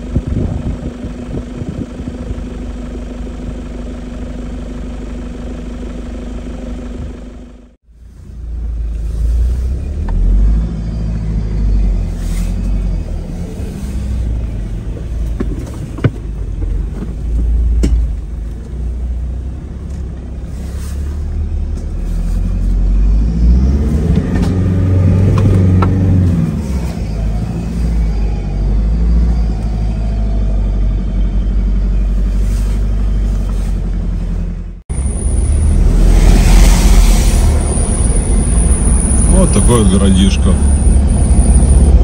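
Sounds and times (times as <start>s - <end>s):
vehicle engine rumble: 0.0s - 42.0s.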